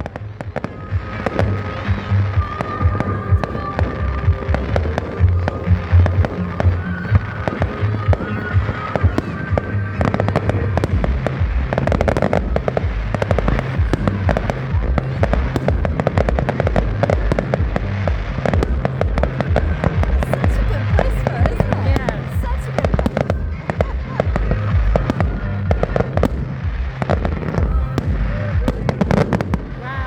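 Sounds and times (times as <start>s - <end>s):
fireworks bangs and crackling: 0.0s - 30.0s
music playing: 0.0s - 30.0s.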